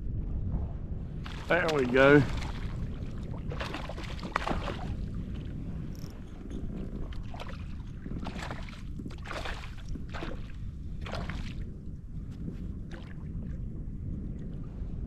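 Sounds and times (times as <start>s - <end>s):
wind rumbling on microphone: 0.0s - 15.0s
water washing against hull: 1.1s - 14.8s.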